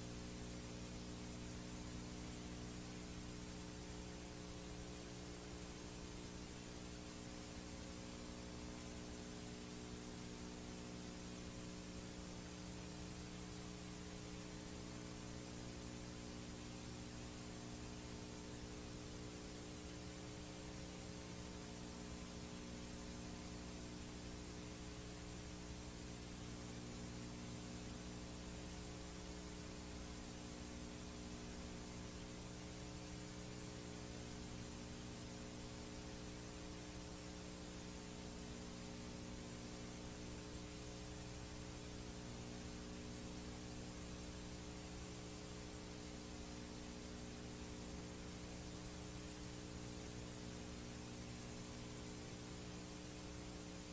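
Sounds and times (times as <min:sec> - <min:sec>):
mains hum: 0:00.0 - 0:53.9
tape hiss: 0:00.0 - 0:53.9.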